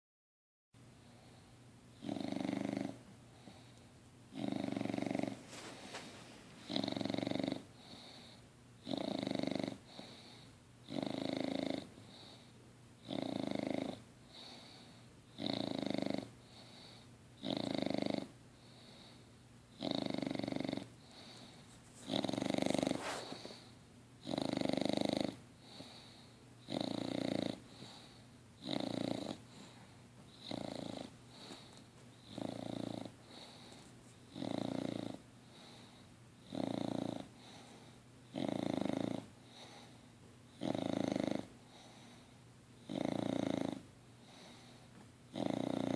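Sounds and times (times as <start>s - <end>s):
dog breathing quietly: 1.0s - 11.2s, 11.8s - 45.9s
dog snoring: 1.1s - 45.9s.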